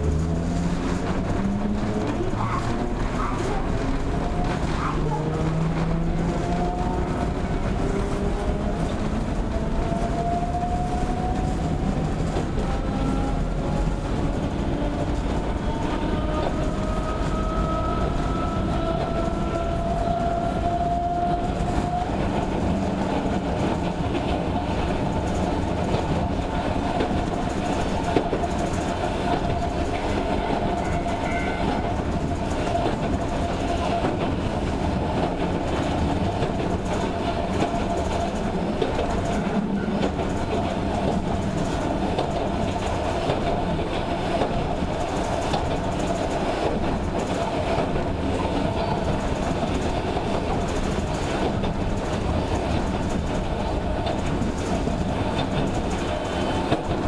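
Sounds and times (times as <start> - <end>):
wheels clattering on rails: 0.0 - 57.0.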